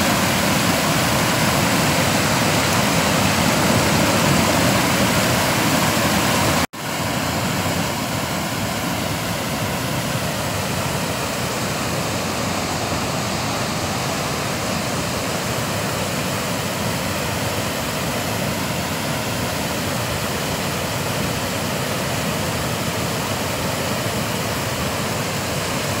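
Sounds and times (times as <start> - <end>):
fast-flowing river water rushing: 0.0 - 26.0.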